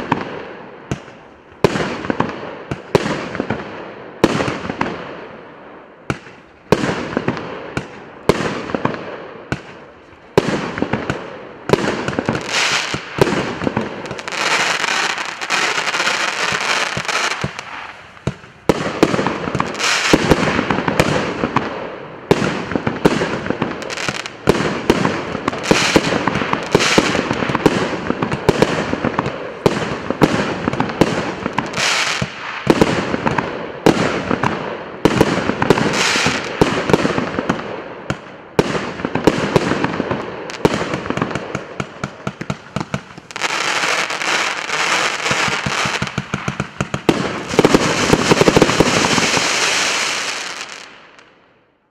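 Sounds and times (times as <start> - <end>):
fireworks bursts and crackling: 0.0 - 51.4.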